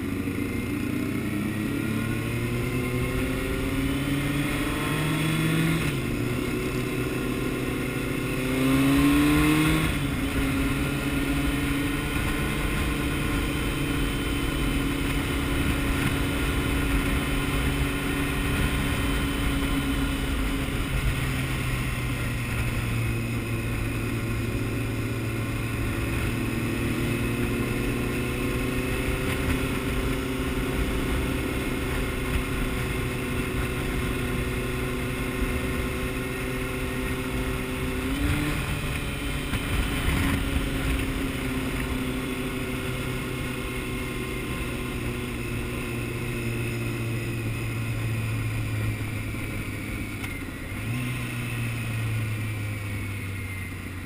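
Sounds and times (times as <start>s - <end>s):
motorcycle engine accelerating: 0.0s - 54.0s
rush of wind: 0.0s - 54.0s.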